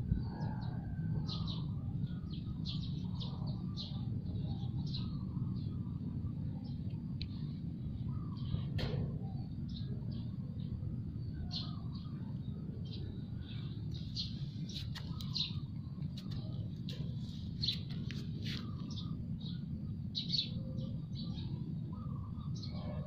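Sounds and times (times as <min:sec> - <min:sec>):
low background rumble: 0:00.0 - 0:23.0
small birds chirping: 0:00.2 - 0:23.0.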